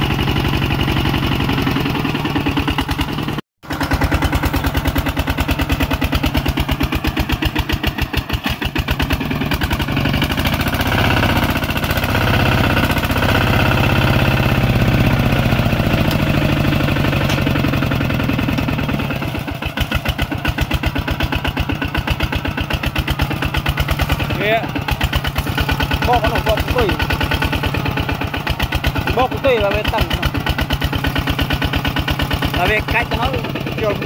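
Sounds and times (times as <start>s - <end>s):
diesel engine chugging and revving: 0.0s - 34.0s.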